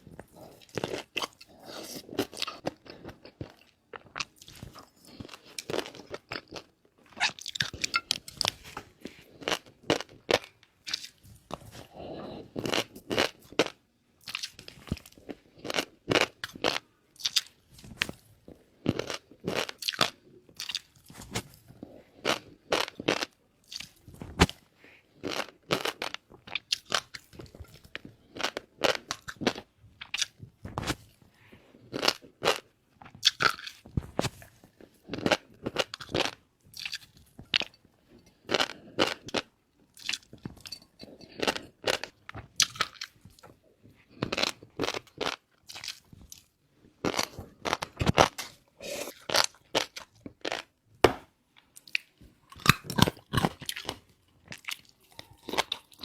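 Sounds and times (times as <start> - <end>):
crunching and chewing: 0.0 - 31.2, 31.8 - 50.8, 51.7 - 56.0.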